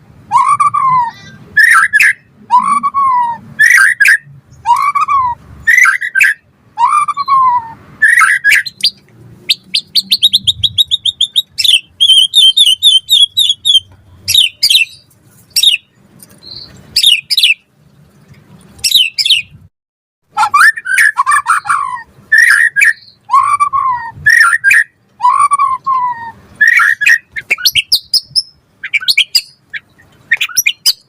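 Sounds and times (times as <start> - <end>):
bird singing whistled phrases: 0.3 - 15.0, 15.6 - 17.6, 18.8 - 19.5, 20.4 - 31.0.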